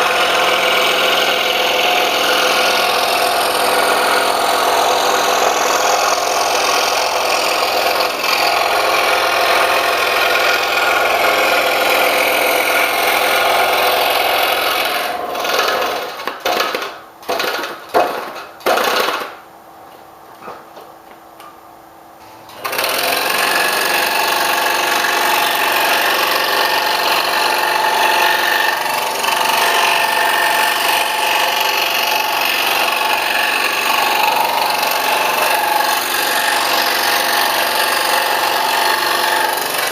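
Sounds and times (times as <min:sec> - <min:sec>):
scroll saw cutting wood: 0:00.0 - 0:17.5, 0:22.5 - 0:39.9.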